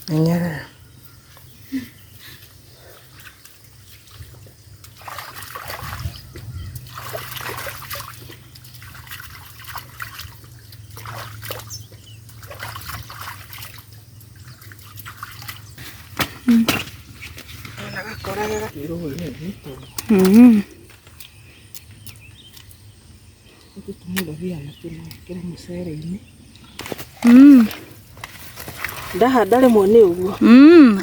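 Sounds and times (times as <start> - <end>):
water trickling and splashing: 0.0 - 31.0.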